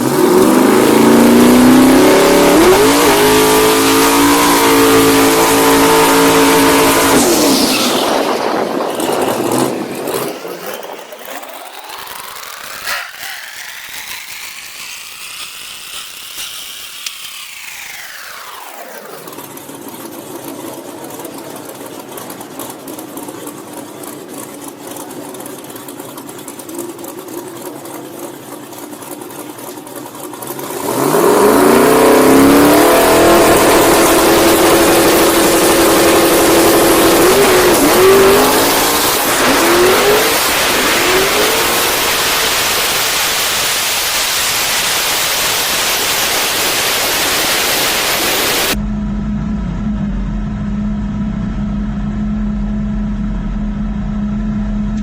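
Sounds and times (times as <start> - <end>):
drag racing car engine revving: 0.0 - 55.0.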